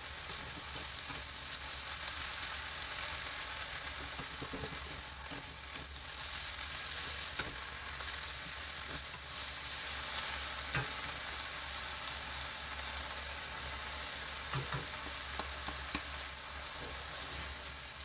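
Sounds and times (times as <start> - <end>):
greens sizzling in a pan: 0.0 - 18.0.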